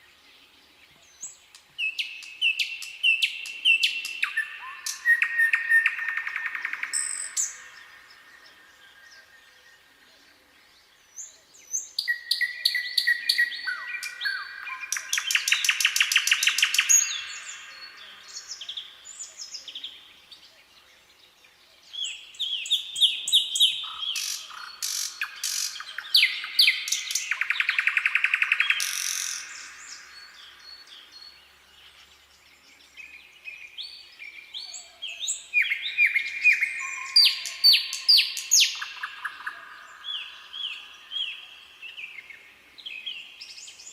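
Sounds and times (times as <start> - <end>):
nightingale singing: 0.0 - 43.9.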